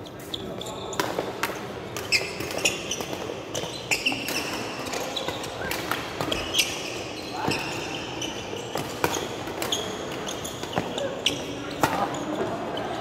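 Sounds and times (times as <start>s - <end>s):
shoes squeaking on floor: 0.0s - 13.0s
rackets hitting shuttlecock: 0.9s - 12.6s.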